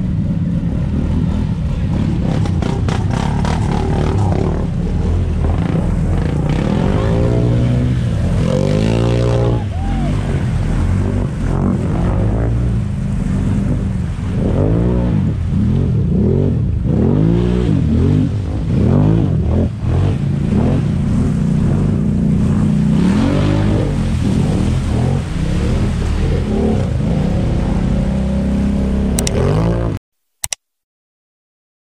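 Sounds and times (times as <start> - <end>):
water and mud splashing: 0.0 - 29.9
atv engines revving: 0.0 - 30.0.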